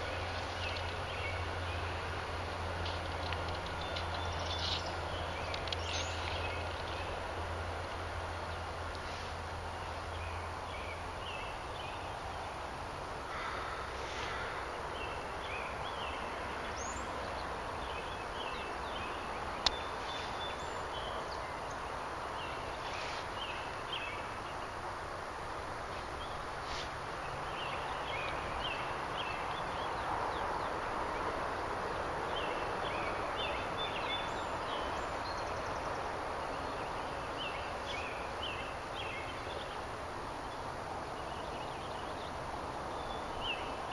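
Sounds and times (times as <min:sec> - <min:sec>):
steady hiss: 0:00.0 - 0:43.9.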